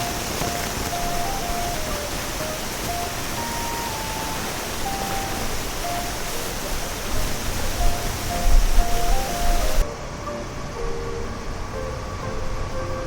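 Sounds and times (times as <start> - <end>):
loud rushing hiss: 0.0 - 13.0
simple tune in single notes: 0.0 - 13.0.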